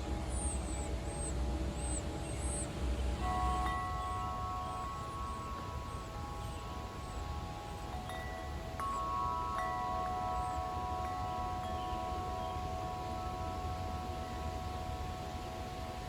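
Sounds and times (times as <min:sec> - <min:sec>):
wind chimes ringing: 0:00.0 - 0:16.0.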